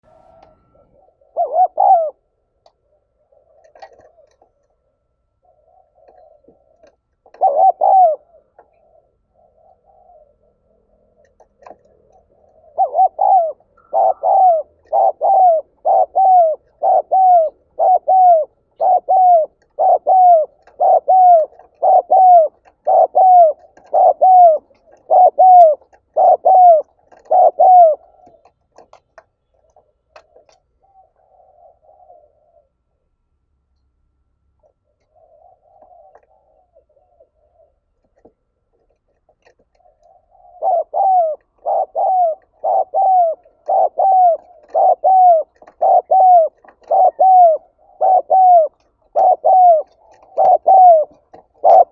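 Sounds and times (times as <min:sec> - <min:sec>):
dove cooing: 0:00.0 - 0:33.0, 0:34.6 - 0:51.9.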